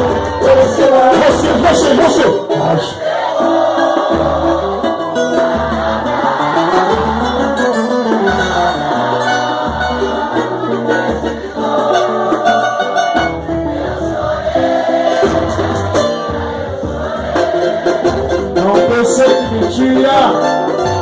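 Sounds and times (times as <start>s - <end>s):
voices singing together: 0.0s - 19.3s
samba group playing: 0.0s - 21.0s.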